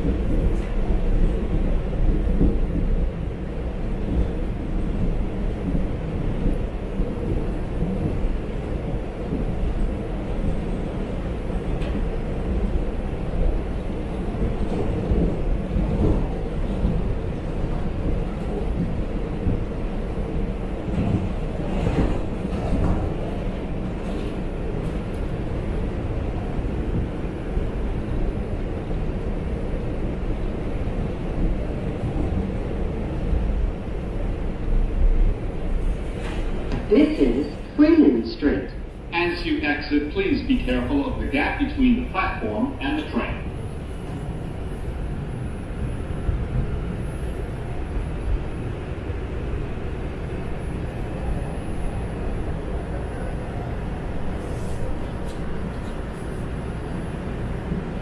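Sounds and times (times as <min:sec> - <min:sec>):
subway train wheels rumbling: 0:00.0 - 0:58.0.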